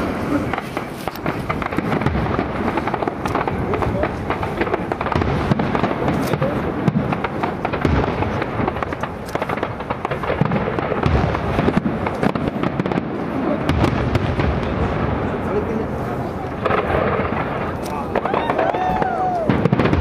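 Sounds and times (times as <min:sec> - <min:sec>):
firework crackle: 0:00.0 - 0:20.0
firework shells bursting: 0:00.0 - 0:20.0.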